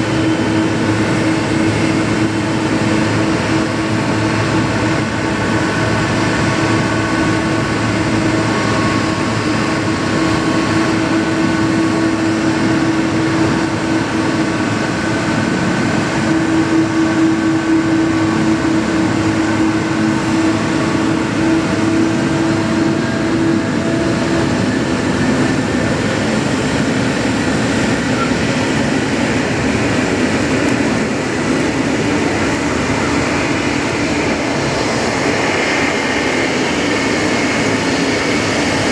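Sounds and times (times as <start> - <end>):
jet engines whining at idle: 0.0 - 38.9.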